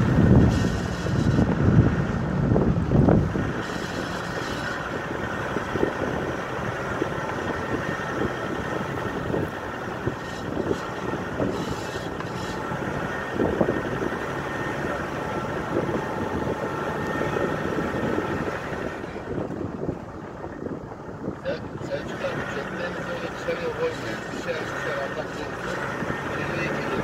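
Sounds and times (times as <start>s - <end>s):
wind on microphone: 0.0s - 22.9s
car engine running: 0.0s - 27.0s.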